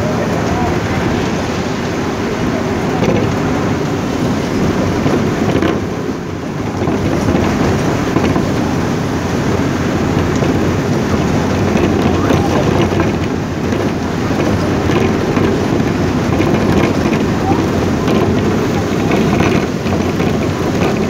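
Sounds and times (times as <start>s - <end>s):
rain on car windows: 0.0s - 21.0s
vehicle engine and road rumble: 0.0s - 21.0s.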